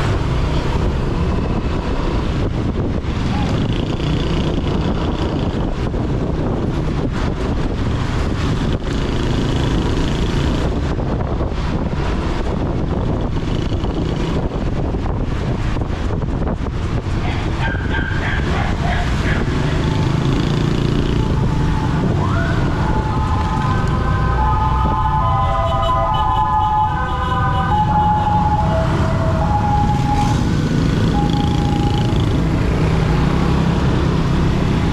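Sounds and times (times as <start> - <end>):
motorcycle engine rumble: 0.0 - 34.9
wind on microphone: 0.0 - 34.9.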